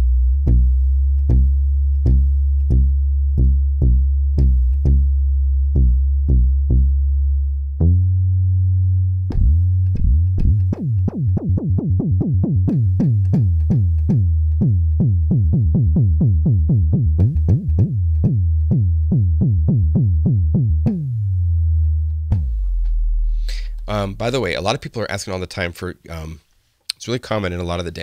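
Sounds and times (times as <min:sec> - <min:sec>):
synth sub bass notes: 0:00.0 - 0:25.2.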